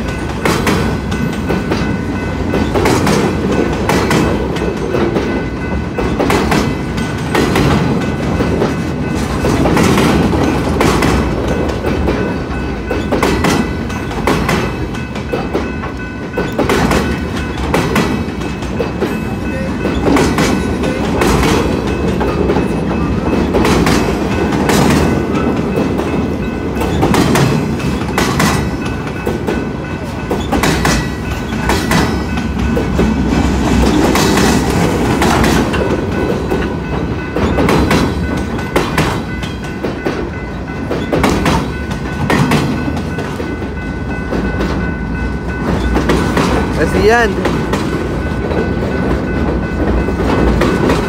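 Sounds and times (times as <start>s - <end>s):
freight train rumbling: 0.0s - 51.0s
train wheels clacking on rails: 0.0s - 51.0s.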